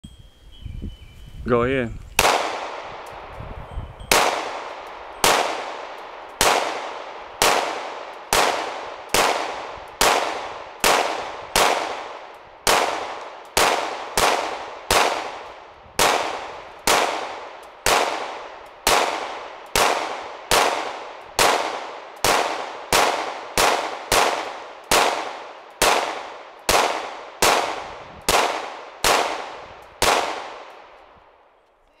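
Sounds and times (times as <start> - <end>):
pistol shots with ringing echo: 2.2 - 3.3, 4.0 - 31.5.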